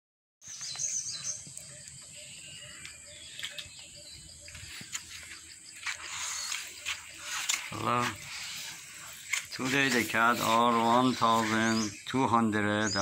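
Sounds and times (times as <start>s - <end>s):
insect drone: 0.4s - 12.5s
birdsong: 0.4s - 13.0s
high bird chirps: 0.4s - 13.0s.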